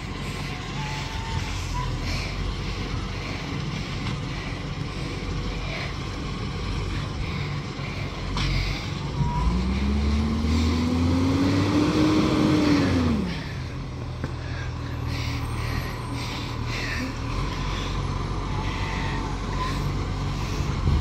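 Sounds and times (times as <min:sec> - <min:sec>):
diesel truck engine revving: 0:00.0 - 0:21.0.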